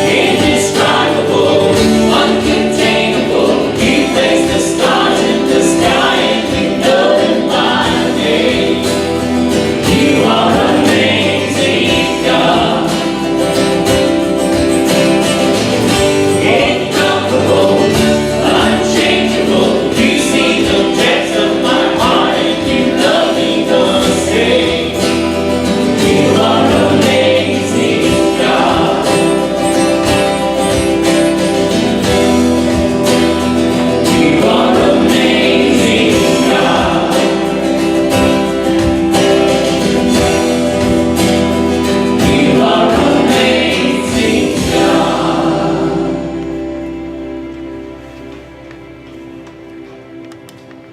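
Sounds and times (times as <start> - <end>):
voices singing a hymn: 0.0 - 47.8
instrumental accompaniment: 0.0 - 50.9.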